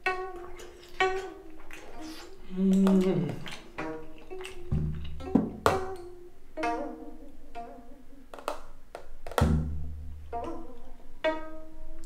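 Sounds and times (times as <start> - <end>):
pizzicato strings music: 0.0 - 12.0.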